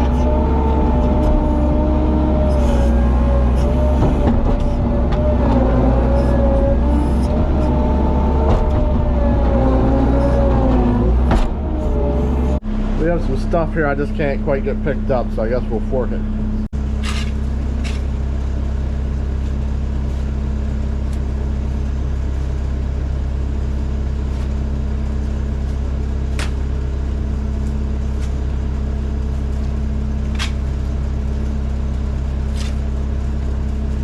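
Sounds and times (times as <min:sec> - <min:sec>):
farm machine engine running: 0:00.0 - 0:34.0.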